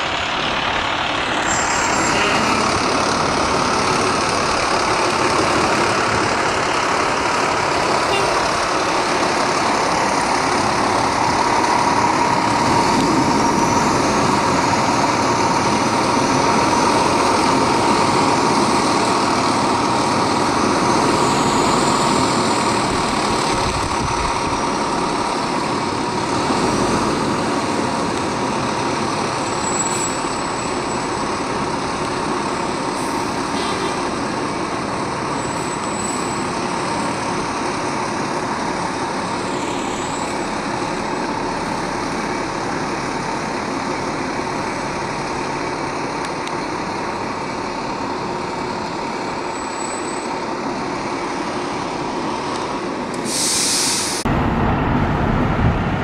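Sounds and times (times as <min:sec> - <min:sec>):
fire truck engine running: 0:00.0 - 0:56.0.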